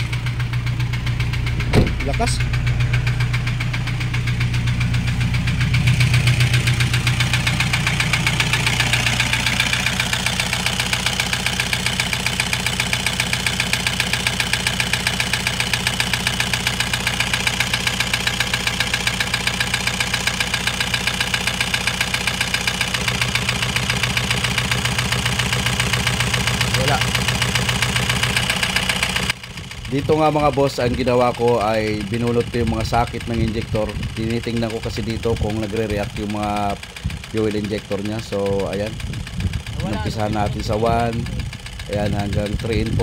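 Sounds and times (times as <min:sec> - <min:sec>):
diesel engine idling with knocking: 0:00.0 - 0:43.0.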